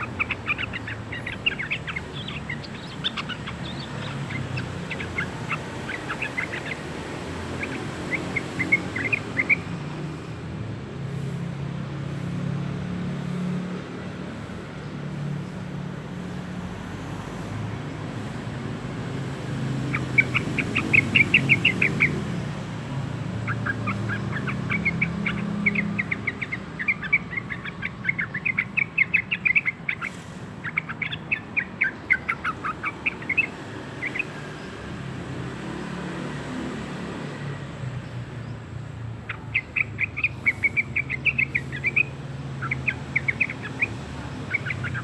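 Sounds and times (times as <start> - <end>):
bird chattering song: 0.0 - 10.5, 14.2 - 45.0.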